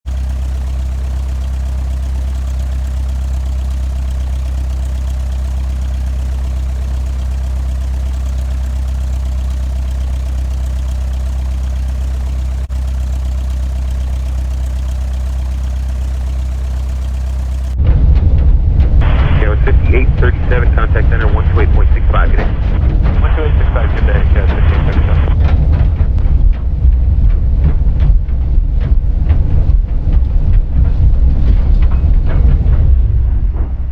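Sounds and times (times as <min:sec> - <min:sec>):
aircraft engines idling: 0:00.0 - 0:33.9.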